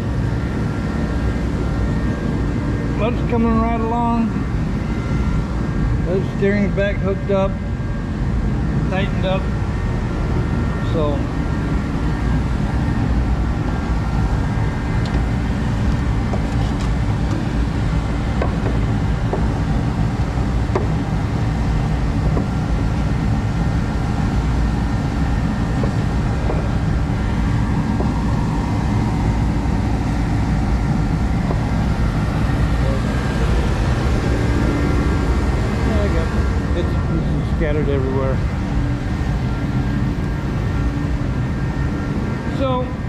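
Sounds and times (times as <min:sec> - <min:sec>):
space heater low rumble: 0:00.0 - 0:43.0.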